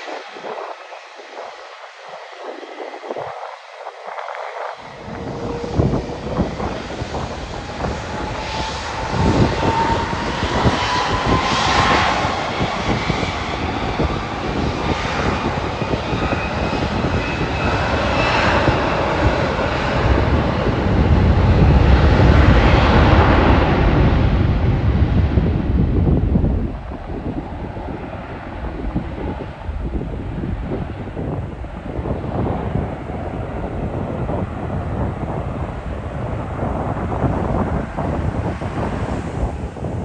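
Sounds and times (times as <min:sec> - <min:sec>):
jet engine deep rumble: 0:00.0 - 0:40.0
jet engine whine: 0:00.0 - 0:40.0.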